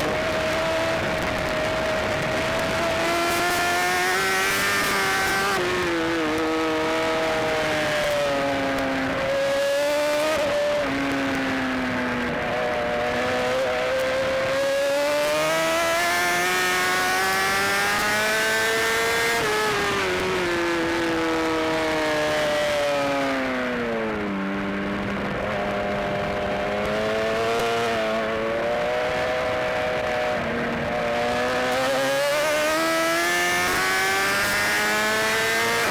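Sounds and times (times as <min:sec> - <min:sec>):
motorcycle engine at speed: 0:00.0 - 0:35.9
wind noise: 0:00.0 - 0:35.9.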